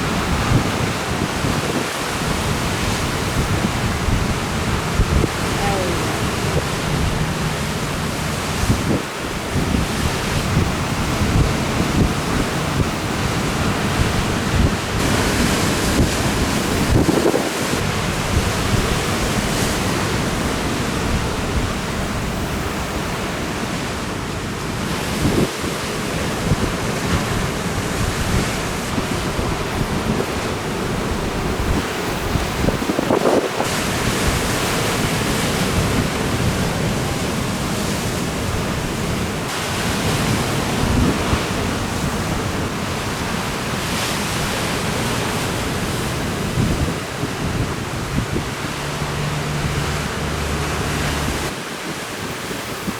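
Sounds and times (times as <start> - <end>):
ocean surf breaking: 0.0 - 52.9
wind buffeting microphone: 0.0 - 52.9.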